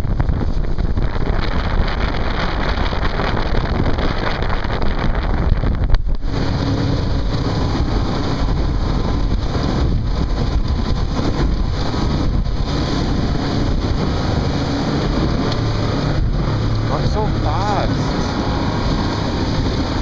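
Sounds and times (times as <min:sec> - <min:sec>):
hull rushing through water: 0:00.0 - 0:20.0
outboard motor running: 0:00.0 - 0:20.0
wind buffeting microphone: 0:00.0 - 0:20.0.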